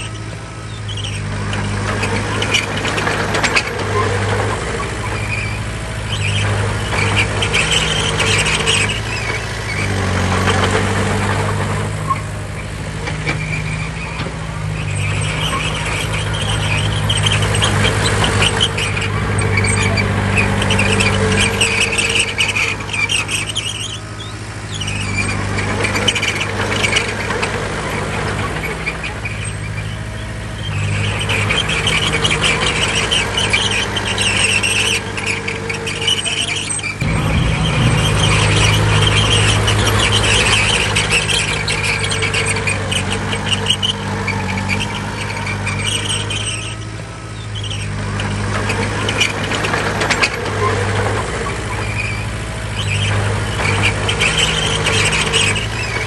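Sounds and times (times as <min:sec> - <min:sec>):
bulldozer diesel engine: 0:00.0 - 0:56.0
steel tracks squealing: 0:00.0 - 0:56.0.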